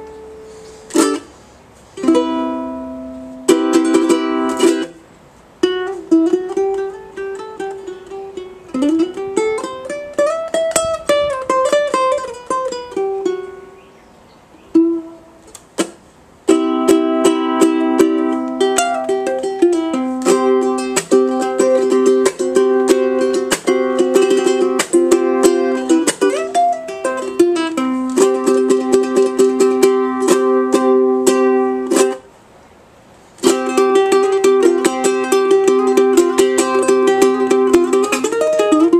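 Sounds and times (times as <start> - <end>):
ukulele strumming and plucking: 0.0 - 32.4, 33.0 - 38.9.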